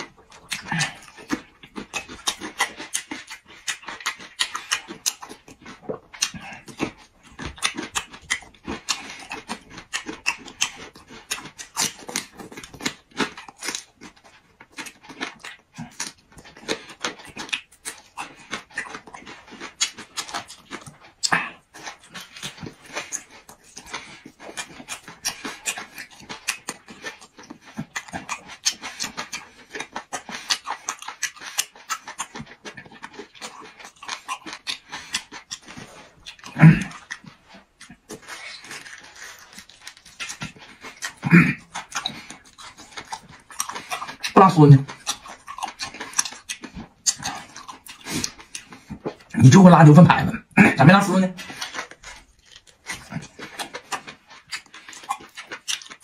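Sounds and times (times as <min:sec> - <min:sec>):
wet chewing and lip smacking: 0:00.0 - 0:56.0.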